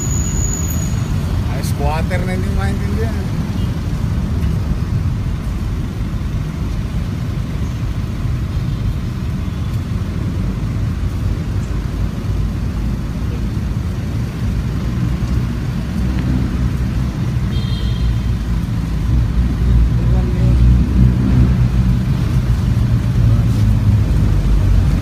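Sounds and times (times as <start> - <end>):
cars passing on street: 0.0 - 25.0.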